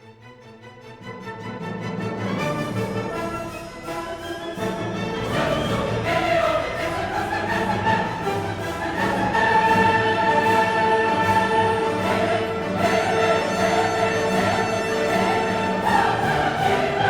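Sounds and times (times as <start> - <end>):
orchestral music with choir: 0.0 - 17.0.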